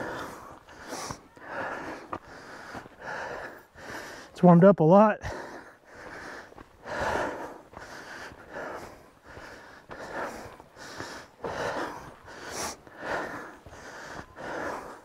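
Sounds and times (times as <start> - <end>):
person panting: 0.0 - 4.4, 5.2 - 15.0.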